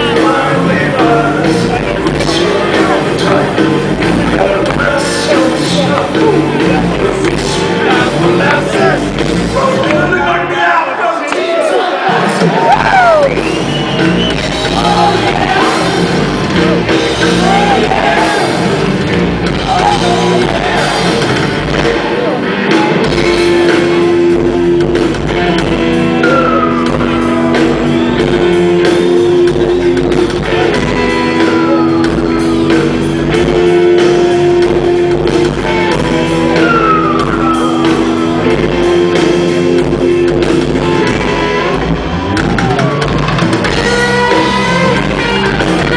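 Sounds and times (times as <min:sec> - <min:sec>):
drum kit: 0:00.0 - 0:10.3, 0:12.1 - 0:45.9
electric guitar riff: 0:00.0 - 0:10.5, 0:12.0 - 0:45.9
bass guitar: 0:00.0 - 0:10.6, 0:12.0 - 0:45.9.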